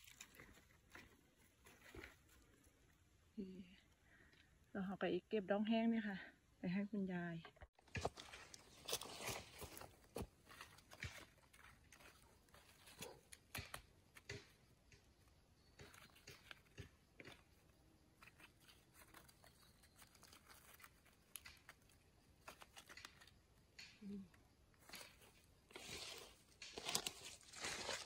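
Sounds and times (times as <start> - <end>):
crackles and rustles of dry leaves: 0.0 - 3.2, 7.8 - 28.0.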